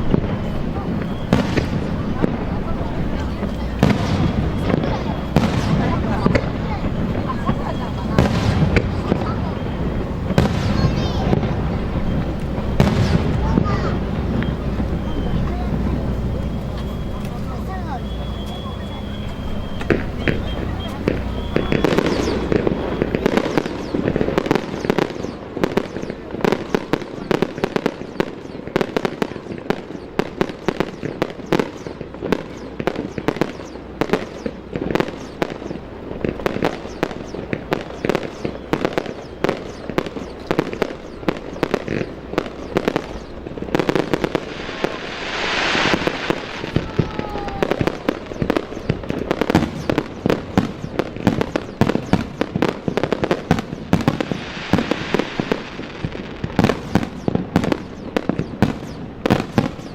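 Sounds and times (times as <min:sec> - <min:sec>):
firework shell bursts: 0:00.0 - 0:59.9.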